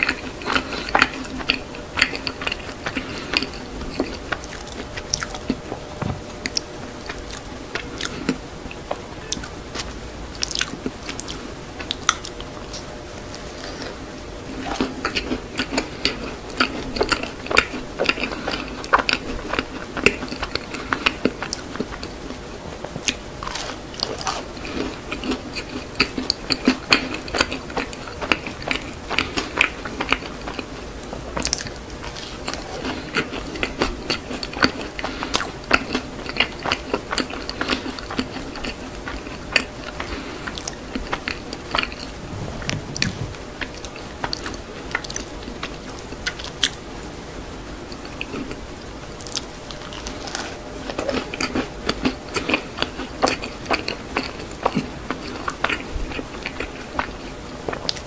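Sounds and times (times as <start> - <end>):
crunchy cookie chewing: 0.0 - 46.9, 47.9 - 58.0.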